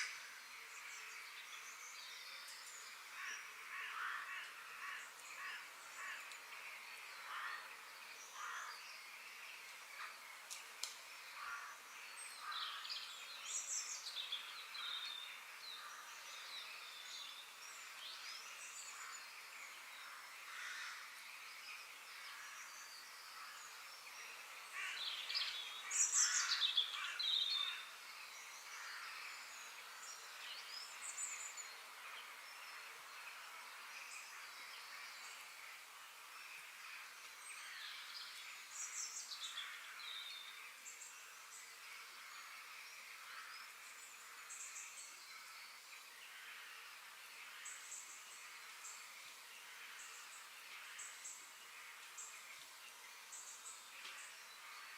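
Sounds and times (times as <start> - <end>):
birds calling and chirping: 0.0 - 54.9
faint background hiss: 0.0 - 54.9.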